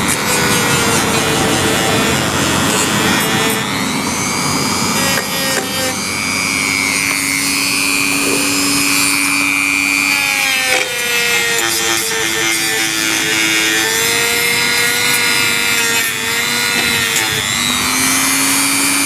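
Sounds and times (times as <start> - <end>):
rotary tool motor whine: 0.0 - 19.0.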